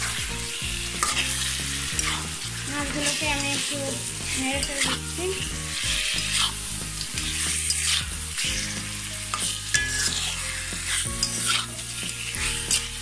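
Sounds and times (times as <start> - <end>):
fish sizzling in oily paste: 0.0 - 13.0
metal spatula scraping pan: 0.0 - 13.0.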